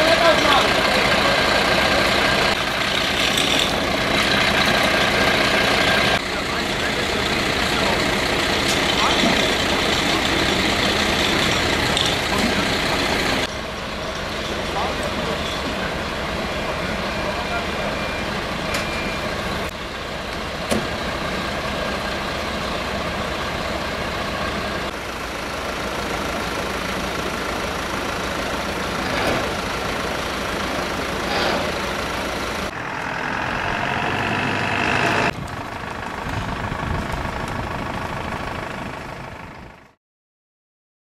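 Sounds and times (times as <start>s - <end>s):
diesel engines idling: 0.0s - 40.0s.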